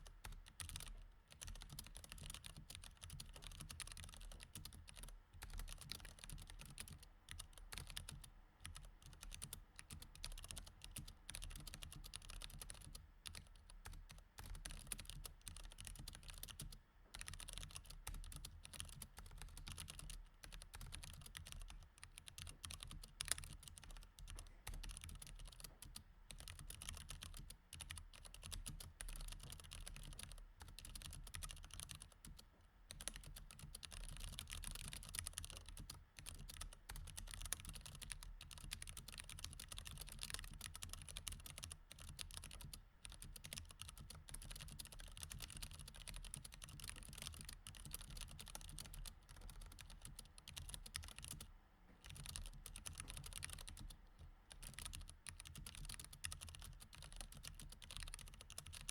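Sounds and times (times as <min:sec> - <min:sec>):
mechanical keyboard typing: 0:00.2 - 0:58.9.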